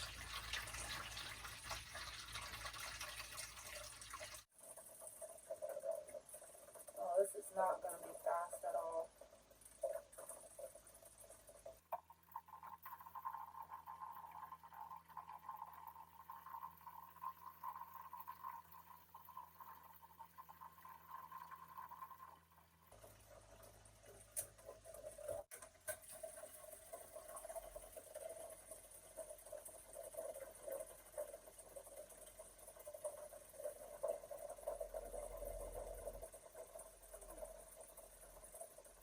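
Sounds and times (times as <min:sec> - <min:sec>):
water pouring into tank: 0:00.0 - 0:39.0.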